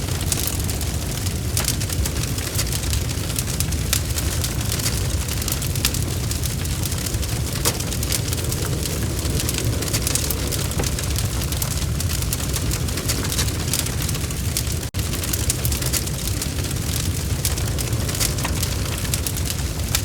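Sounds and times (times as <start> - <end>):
burning logs crackling and popping: 0.0 - 20.0
fire rumbling: 0.0 - 20.0.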